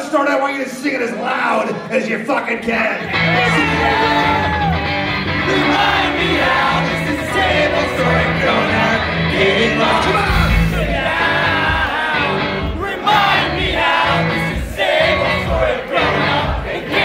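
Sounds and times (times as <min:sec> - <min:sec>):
crowd singing along: 0:03.1 - 0:17.0
live ska-punk band playing: 0:03.1 - 0:17.0.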